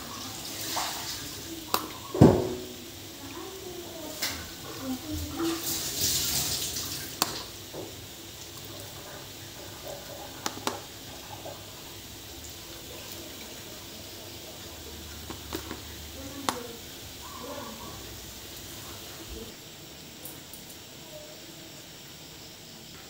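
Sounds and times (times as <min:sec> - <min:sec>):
low steady background hum: 0:00.0 - 0:23.0.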